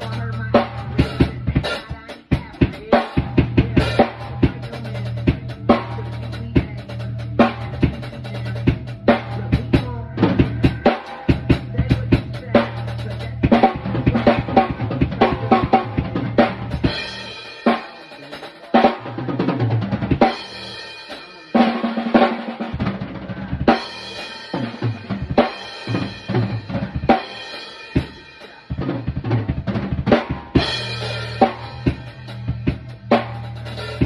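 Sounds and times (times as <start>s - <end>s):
drum kit playing: 0.0s - 34.0s
hip-hop track with deep bass: 0.0s - 34.0s.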